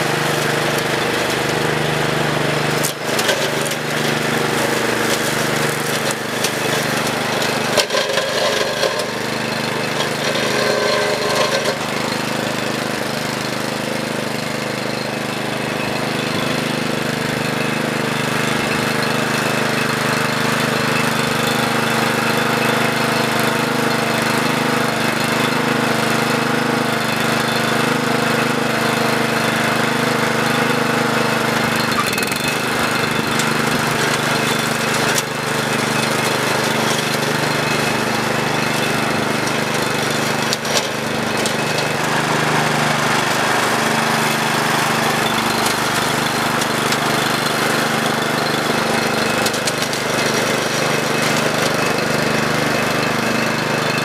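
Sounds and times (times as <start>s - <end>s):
blade cutting grass and brush: 0.0s - 54.0s
small gasoline engine running: 0.0s - 54.0s.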